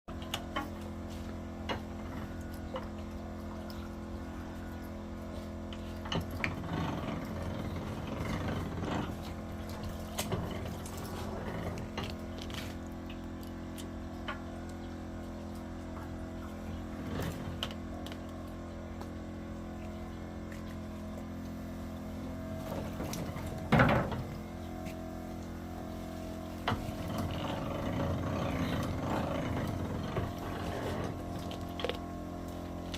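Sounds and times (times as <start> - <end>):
grinding machine humming: 0.1 - 32.9.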